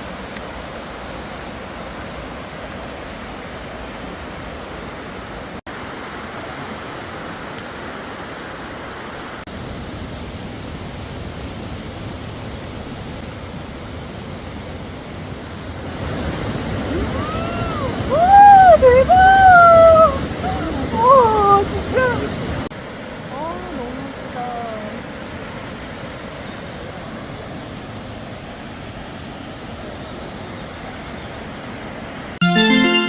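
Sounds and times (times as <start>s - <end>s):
stream rushing over rocks: 0.0s - 32.4s.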